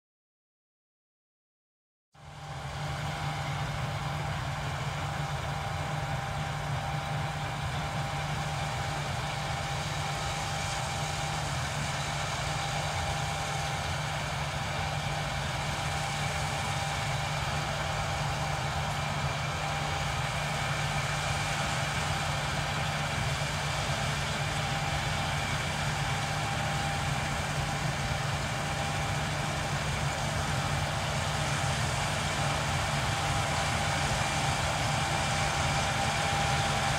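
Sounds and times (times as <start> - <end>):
combine harvester engine drone: 2.2 - 36.9.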